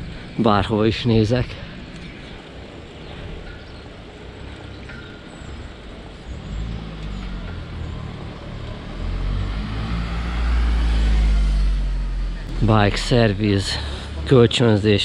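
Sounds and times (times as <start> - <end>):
vehicle engine hum approaching: 0.0 - 15.0.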